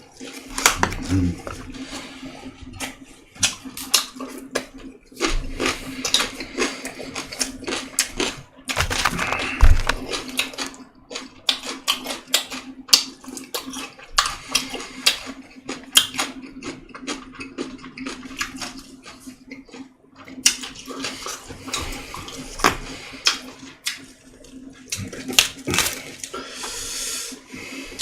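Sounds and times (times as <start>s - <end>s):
faint steady hum: 0.0s - 28.0s
person chewing and eating: 0.0s - 28.0s.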